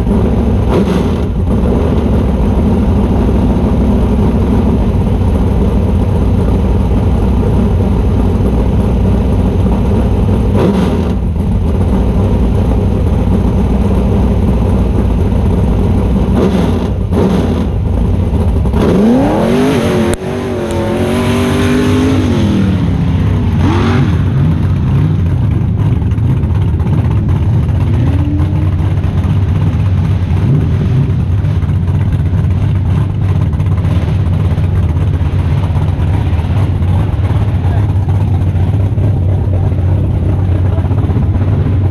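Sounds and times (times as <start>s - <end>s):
buggy engine revving: 0.0s - 41.9s.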